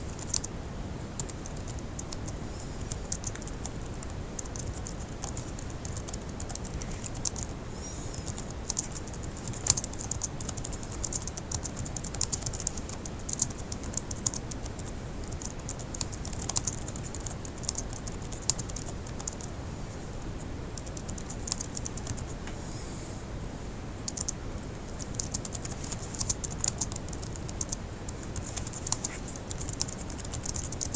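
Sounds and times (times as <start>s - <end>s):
fast typing on laptop keyboard: 0.1s - 0.6s, 1.2s - 7.5s, 8.1s - 19.6s, 20.8s - 22.3s, 24.1s - 24.4s, 25.0s - 30.9s.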